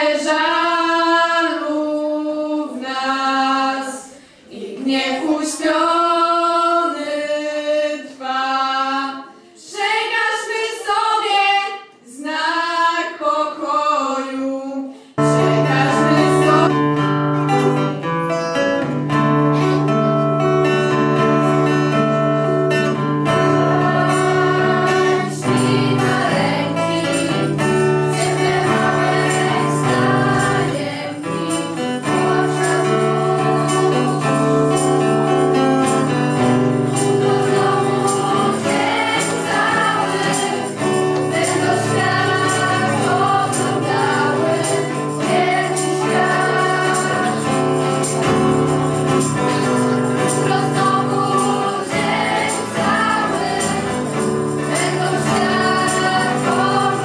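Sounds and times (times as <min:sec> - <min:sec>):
girls singing a cappella harmony: 0:00.0 - 0:16.8, 0:22.9 - 0:57.0
girls' choir singing: 0:00.0 - 0:16.8, 0:22.7 - 0:57.0
acoustic guitar: 0:00.0 - 0:57.0.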